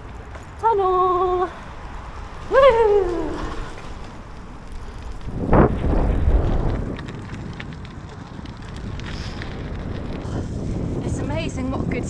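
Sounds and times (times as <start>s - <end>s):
bike tyre rumble: 0.0s - 12.0s
wind buffeting microphone: 0.0s - 12.0s.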